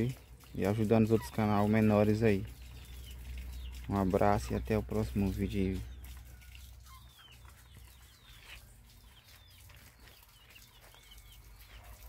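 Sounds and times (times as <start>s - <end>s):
chicks cheeping: 0.0s - 12.0s.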